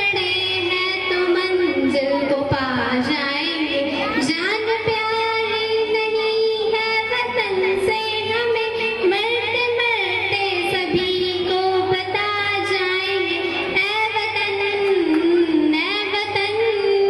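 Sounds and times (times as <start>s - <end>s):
girl singing into microphone: 0.0s - 17.0s.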